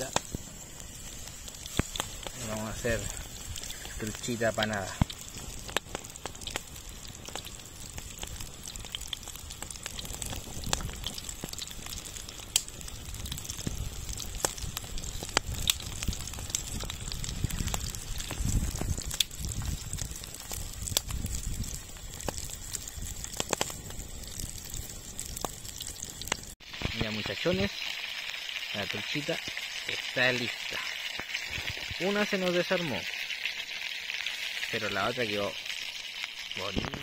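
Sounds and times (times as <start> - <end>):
fish frying in hot oil: 0.0 - 37.0.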